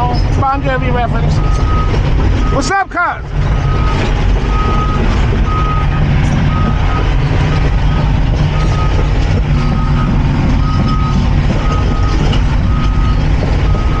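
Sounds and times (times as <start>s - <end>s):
diesel engine rumbling: 0.0s - 14.0s
travel alarm beeping: 1.3s - 2.7s, 3.6s - 14.0s.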